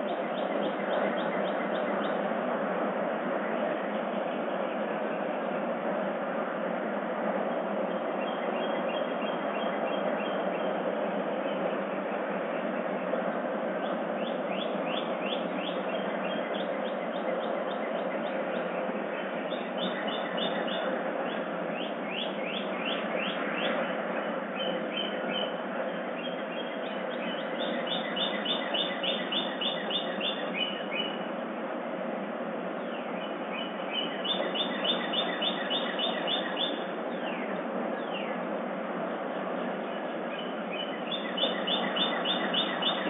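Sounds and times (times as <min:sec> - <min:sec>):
songbirds chirping: 0:00.0 - 0:31.8, 0:32.6 - 0:43.0
steady background hiss: 0:00.0 - 0:43.0.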